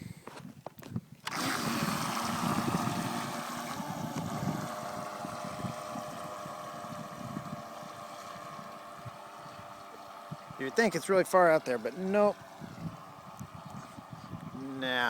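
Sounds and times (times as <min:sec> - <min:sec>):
model boat motor running: 0:01.2 - 0:15.0
propeller churning water: 0:01.2 - 0:15.0.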